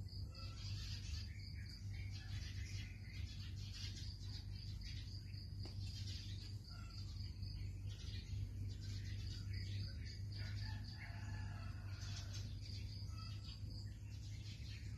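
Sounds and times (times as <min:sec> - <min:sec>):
birds chirping: 0:00.0 - 0:14.9
low constant hum: 0:00.0 - 0:14.9.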